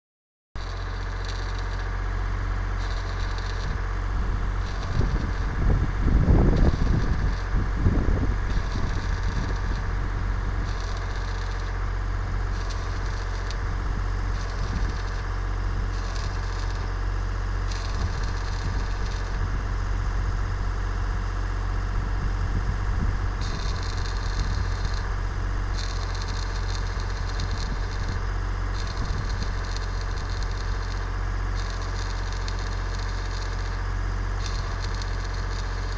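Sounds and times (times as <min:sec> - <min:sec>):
engine running steadily: 0:00.6 - 0:35.9
heavy irregular rumbling: 0:00.6 - 0:35.9
welding arc crackle: 0:00.6 - 0:35.9.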